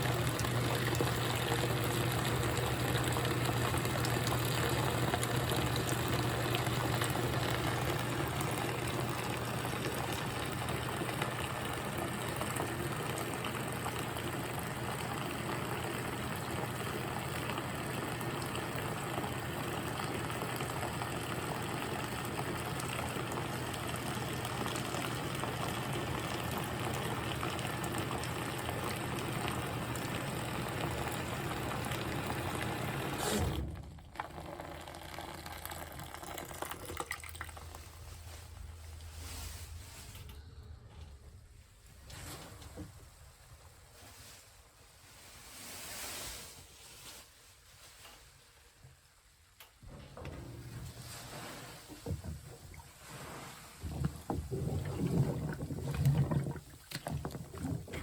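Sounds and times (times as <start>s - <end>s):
water sloshing in washing machine: 0.0s - 40.3s, 49.8s - 58.0s
washing machine low hum: 0.0s - 58.0s.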